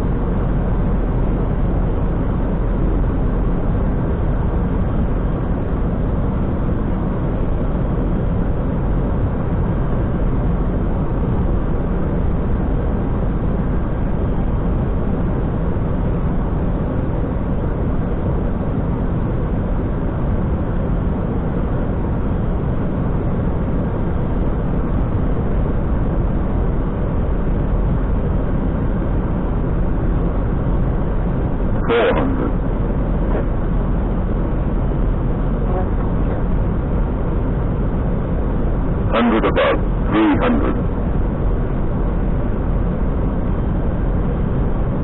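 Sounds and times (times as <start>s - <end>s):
jet engine noise: 0.0s - 45.0s.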